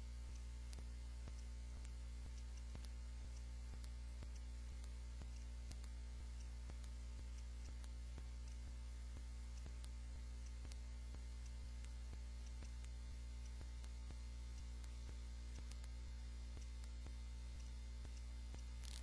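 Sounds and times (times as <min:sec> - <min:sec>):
faint regular clicks: 0:00.0 - 0:19.0
low electrical hum: 0:00.0 - 0:19.0.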